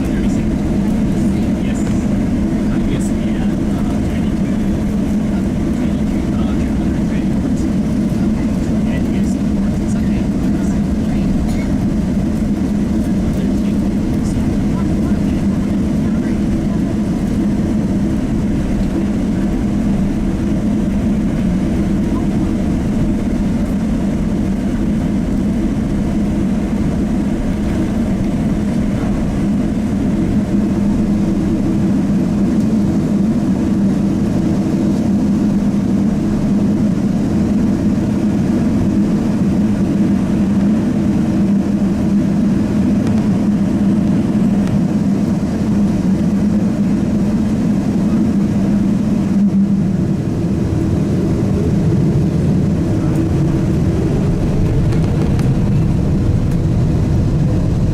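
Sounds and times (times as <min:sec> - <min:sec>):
constant low hum: 0:00.0 - 0:57.9
jet engine and airflow drone: 0:00.0 - 0:57.9.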